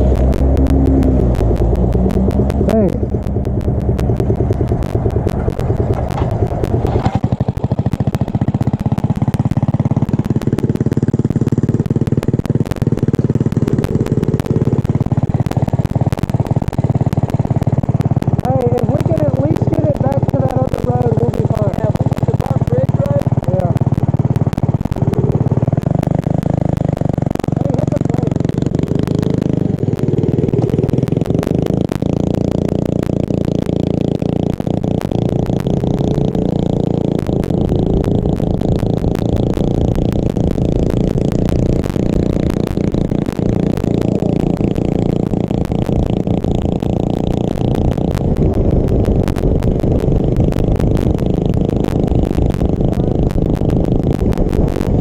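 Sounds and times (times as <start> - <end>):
fast clicking and clatter: 0.0 - 55.0
mini bike engine running: 0.0 - 55.0.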